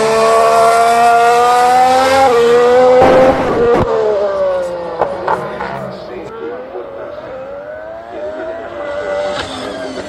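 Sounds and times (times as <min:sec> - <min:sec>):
race car engine at high revs: 0:00.0 - 0:10.0.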